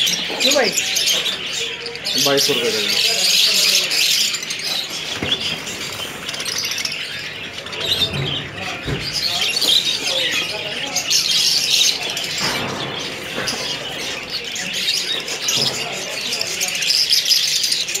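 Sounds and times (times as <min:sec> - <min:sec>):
parakeet chicks chirping: 0:00.0 - 0:18.0.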